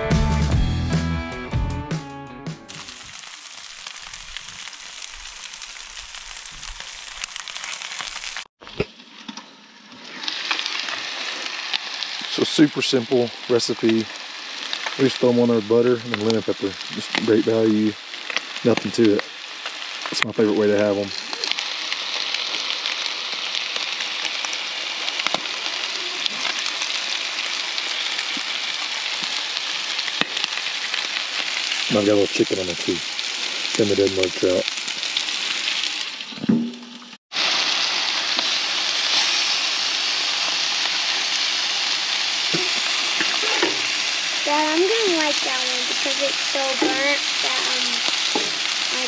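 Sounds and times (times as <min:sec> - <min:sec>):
fish sizzling in a pan: 0:02.7 - 0:49.0.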